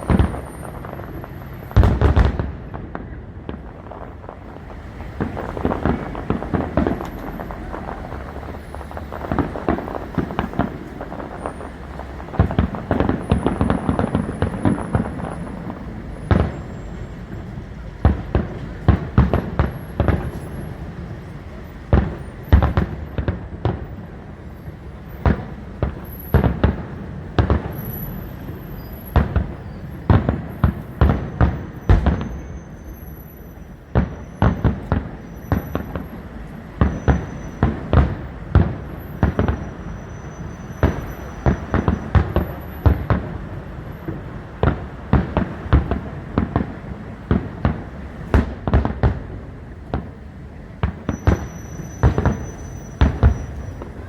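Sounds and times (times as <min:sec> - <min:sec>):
fireworks booming: 0:00.0 - 0:54.0.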